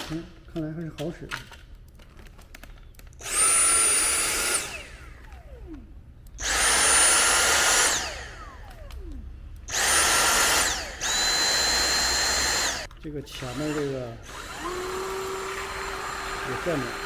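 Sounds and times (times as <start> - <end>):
vacuum motor whine: 3.2 - 17.0.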